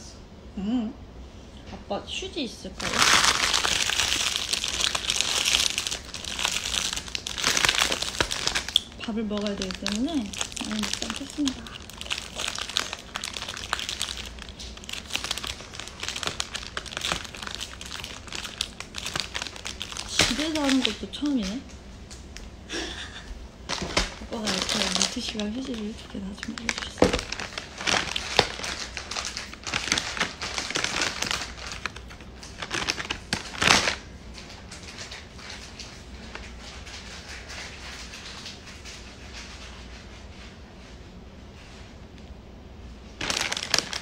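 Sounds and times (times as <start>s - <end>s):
plastic bag crinkling: 2.8s - 22.3s, 23.7s - 39.3s, 43.2s - 44.0s.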